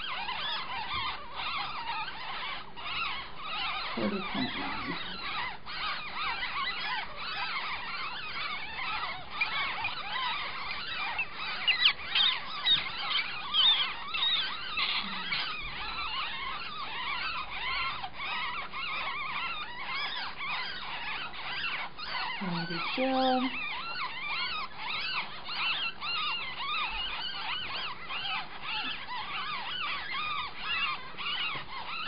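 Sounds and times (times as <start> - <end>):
ferret kits squeaking: 0.0 - 32.0.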